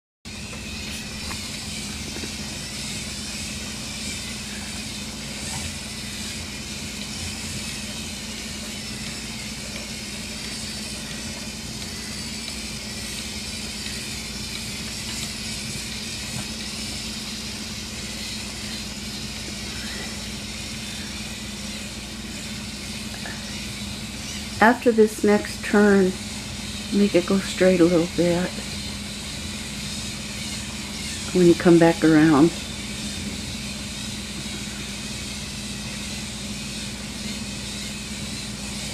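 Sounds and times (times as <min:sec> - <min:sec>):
robot motors whirring: 0:00.3 - 0:38.9.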